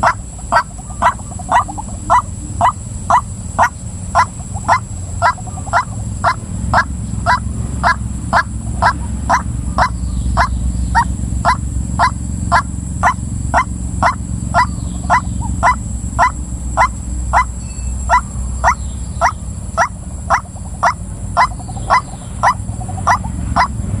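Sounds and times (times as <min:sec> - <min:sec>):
waterhen calling: 0:00.0 - 0:23.8
steady low hum: 0:00.0 - 0:24.0.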